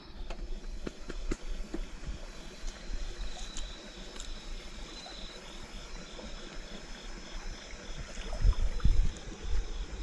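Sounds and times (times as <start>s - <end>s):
cricket chirping: 0.0s - 10.0s
faint stream water: 0.0s - 10.0s
wading through shallow water: 0.6s - 10.0s.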